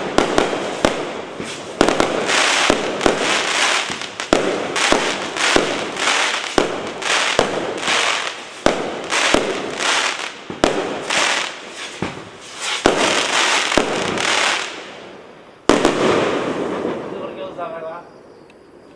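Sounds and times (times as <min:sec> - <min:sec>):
firework shots reports: 0:00.0 - 0:14.9, 0:15.7 - 0:17.7
firework crackling: 0:00.0 - 0:17.6.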